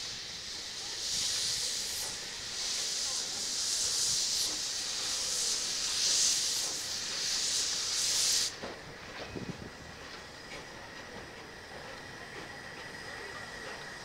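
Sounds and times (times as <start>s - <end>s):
steam hissing in surges: 0.0s - 14.0s.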